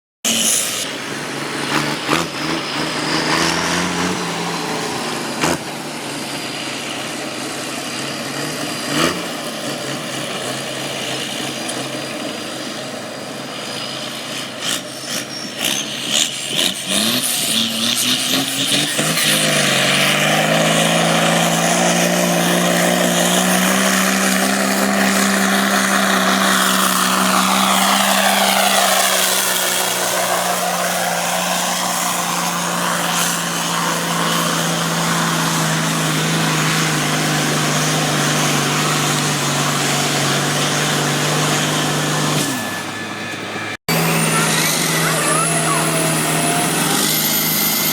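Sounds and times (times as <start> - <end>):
tractor engine running: 0.2 - 47.9.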